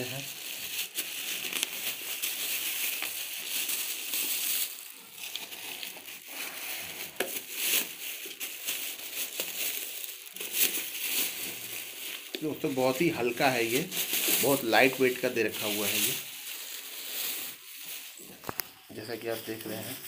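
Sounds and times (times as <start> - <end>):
plastic wrapping crinkling: 0.0 - 20.0.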